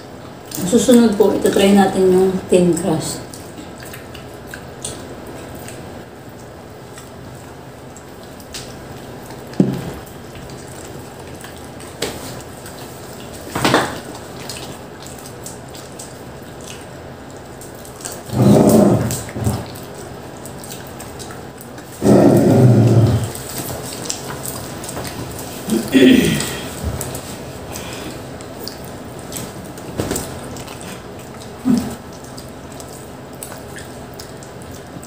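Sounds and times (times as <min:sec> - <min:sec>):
soft chewing and mouth smacks: 0:03.2 - 0:22.0, 0:22.9 - 0:35.0.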